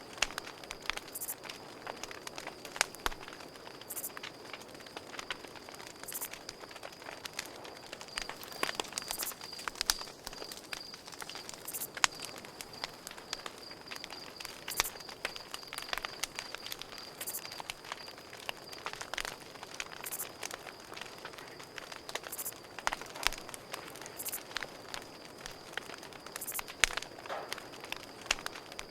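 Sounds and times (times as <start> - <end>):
campfire crackling and popping: 0.0 - 28.9
cricket trill: 0.0 - 28.9.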